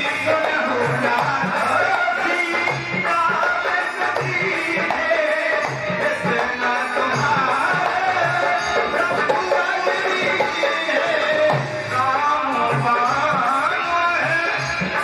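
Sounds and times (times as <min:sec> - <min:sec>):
devotional melody: 0:00.0 - 0:15.0
tabla playing: 0:00.0 - 0:15.0.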